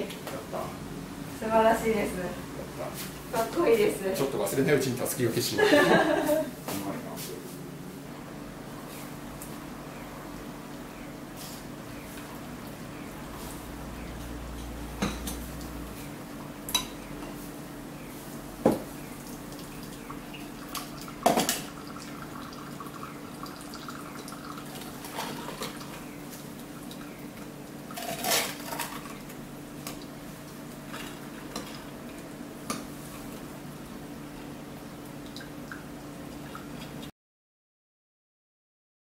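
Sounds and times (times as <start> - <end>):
faint steady hum: 0.0 - 37.1.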